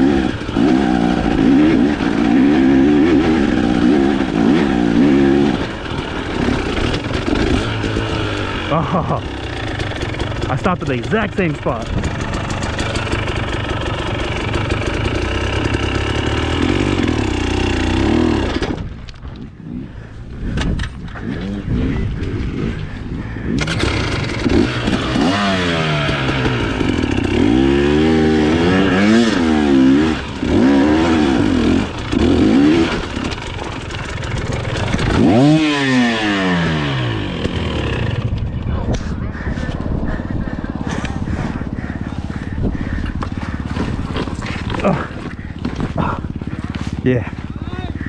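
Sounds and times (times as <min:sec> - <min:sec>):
dirt bike engine revving: 0:00.0 - 0:18.9, 0:21.1 - 0:48.0.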